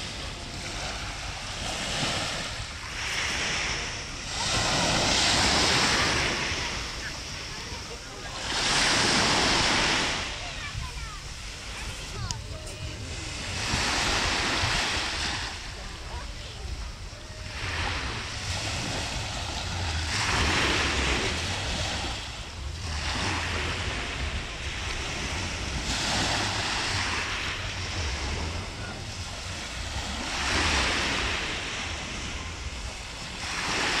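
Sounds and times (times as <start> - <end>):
low wind rumble on microphone: 0.0 - 34.0
sea waves breaking on sand: 0.0 - 34.0.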